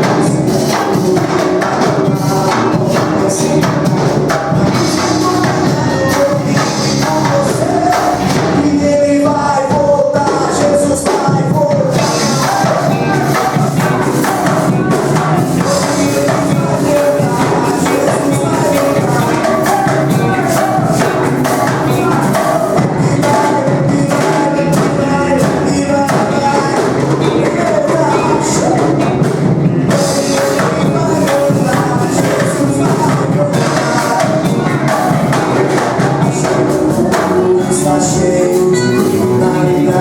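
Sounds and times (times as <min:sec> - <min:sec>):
drums: 0:00.0 - 0:40.0.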